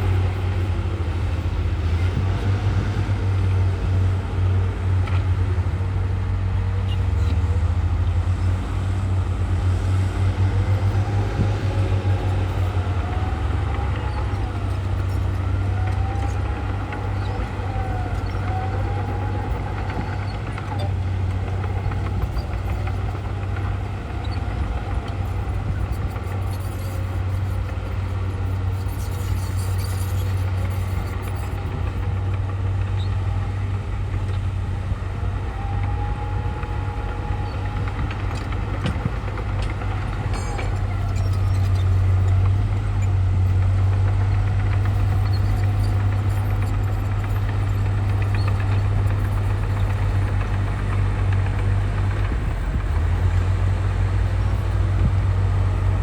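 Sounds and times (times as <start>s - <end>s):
diesel machinery running under load: 0.0s - 56.0s.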